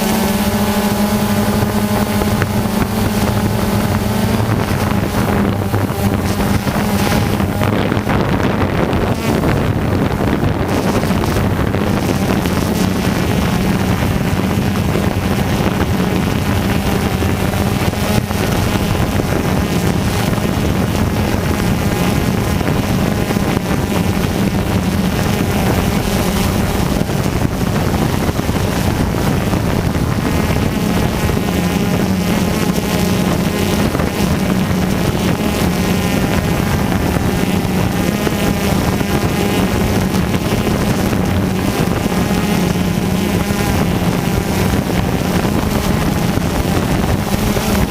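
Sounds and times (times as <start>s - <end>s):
small motor running: 0.0s - 47.9s
wind noise on microphone: 0.0s - 47.9s.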